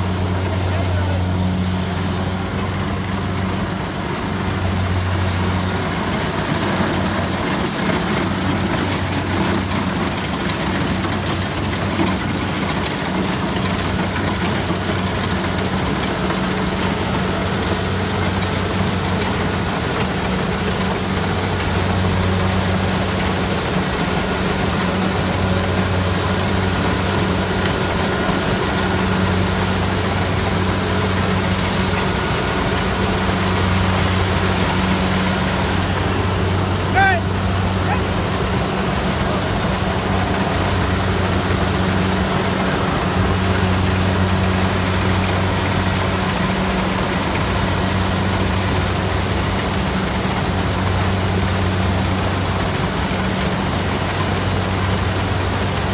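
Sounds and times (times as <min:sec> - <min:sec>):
combine harvester engine drone: 0:00.0 - 0:55.9
machinery noise: 0:00.0 - 0:55.9.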